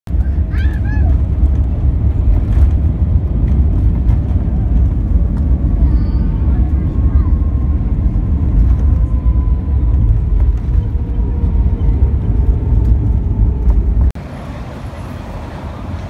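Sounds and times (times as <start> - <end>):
airliner rumble on runway: 0.1 - 16.0
outdoor street noise: 0.1 - 16.0.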